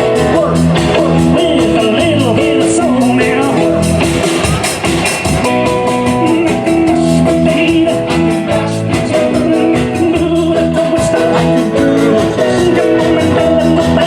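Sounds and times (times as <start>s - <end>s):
drums with steady beat: 0.0s - 14.0s
electric guitar: 0.0s - 14.0s.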